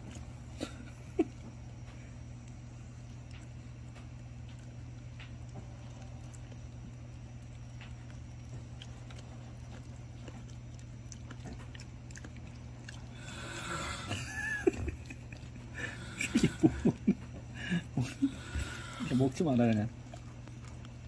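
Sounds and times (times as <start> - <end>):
dog chewing: 0.0 - 21.0
low hum: 0.0 - 21.0.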